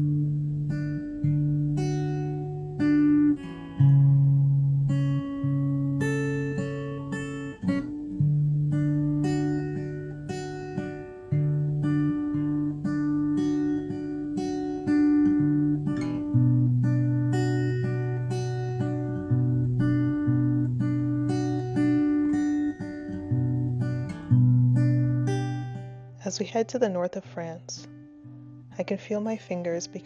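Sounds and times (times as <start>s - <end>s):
acoustic guitar music: 0.0s - 30.0s.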